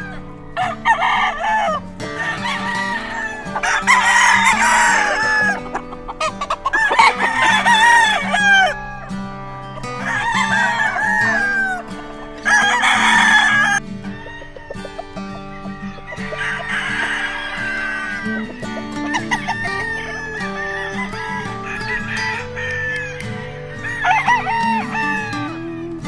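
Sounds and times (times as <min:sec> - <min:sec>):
chicken clucking: 0:00.0 - 0:25.3
roosters crowing: 0:00.0 - 0:26.0.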